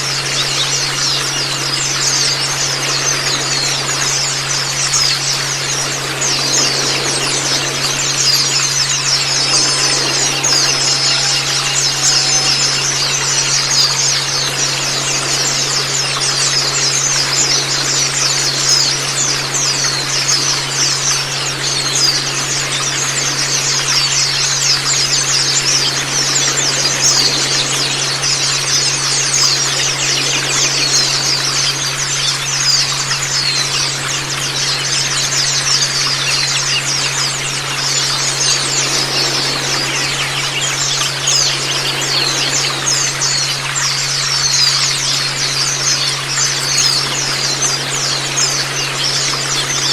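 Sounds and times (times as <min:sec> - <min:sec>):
birds chirping and twittering: 0:00.0 - 0:49.9
low hum: 0:00.0 - 0:49.9.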